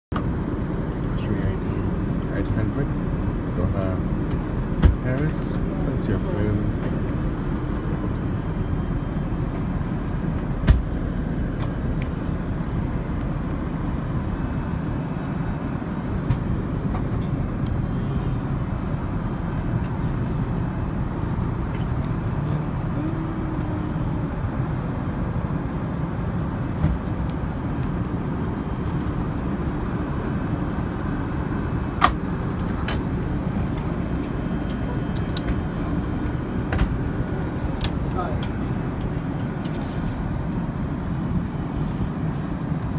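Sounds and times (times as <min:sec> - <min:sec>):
airliner cabin rumble: 0:00.1 - 0:42.9.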